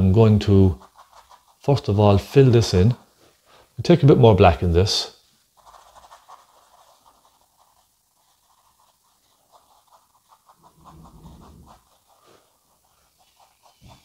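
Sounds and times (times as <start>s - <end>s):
paintbrush scratching on canvas: 0.0s - 3.8s, 4.4s - 14.0s.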